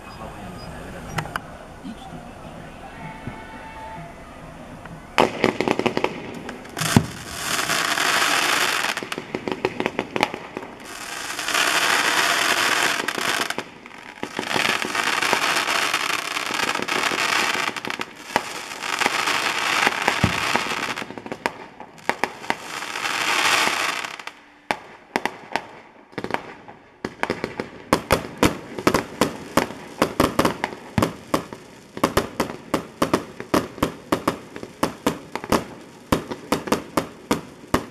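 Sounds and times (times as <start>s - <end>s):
firework crackling: 4.9s - 37.9s
firework bangs: 5.1s - 37.9s.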